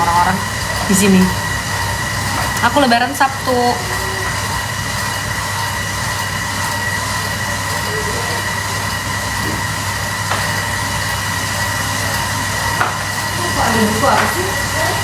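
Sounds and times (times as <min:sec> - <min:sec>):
machine whine and hum: 0:00.0 - 0:15.0.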